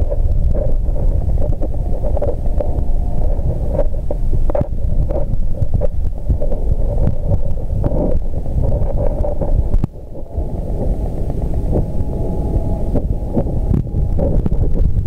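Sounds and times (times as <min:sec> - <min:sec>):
muffled underwater rumble: 0:00.0 - 0:15.0.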